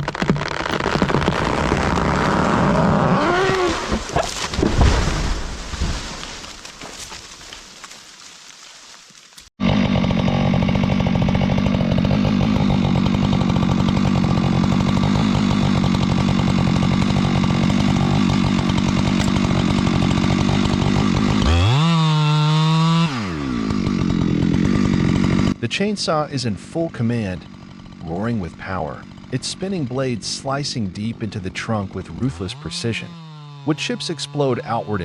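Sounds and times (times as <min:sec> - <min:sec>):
chainsaw engine revving: 0:00.0 - 0:07.9, 0:09.2 - 0:35.0.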